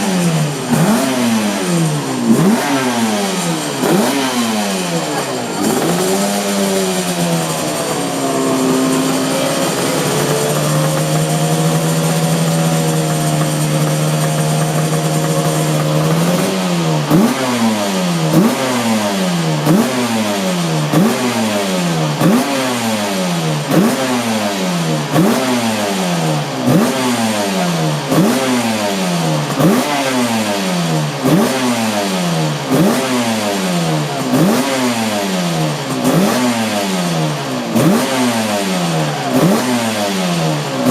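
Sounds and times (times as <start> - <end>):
racing engine revving: 0.0 - 40.9.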